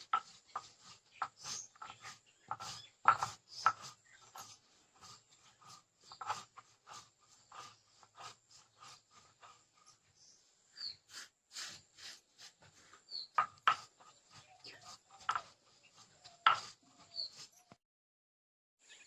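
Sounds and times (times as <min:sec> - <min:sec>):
stone roller grinding on slab: 0:00.0 - 0:17.7.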